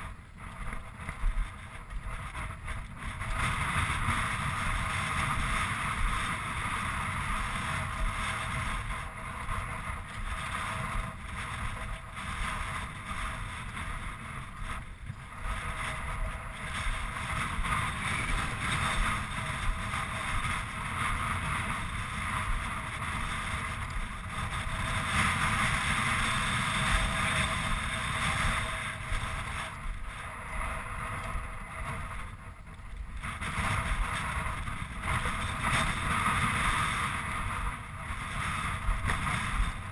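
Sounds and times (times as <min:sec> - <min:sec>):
wind buffeting camera: 0:00.0 - 0:39.9.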